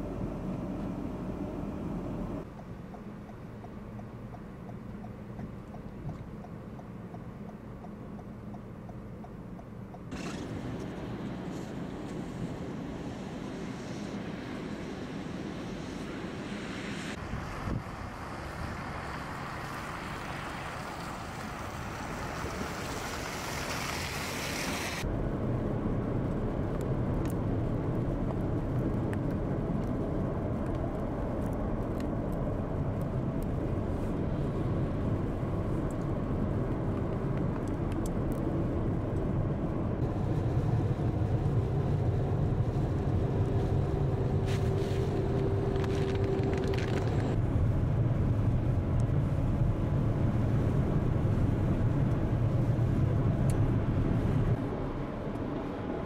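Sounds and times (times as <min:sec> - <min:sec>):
vehicle engine rumble: 0:00.0 - 0:56.0
wind noise: 0:10.1 - 0:20.5, 0:21.3 - 0:56.0.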